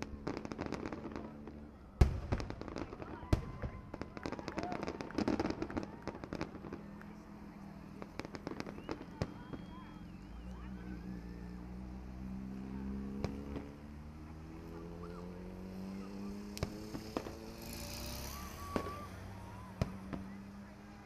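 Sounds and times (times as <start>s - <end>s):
fireworks banging: 0.0s - 21.0s
fireworks crackling: 0.0s - 21.0s.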